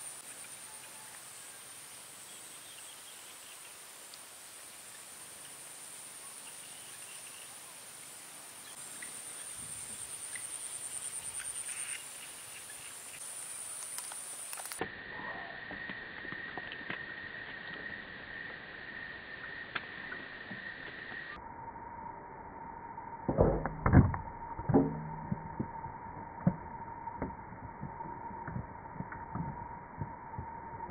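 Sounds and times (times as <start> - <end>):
low steady insect tone: 0.0 - 30.9.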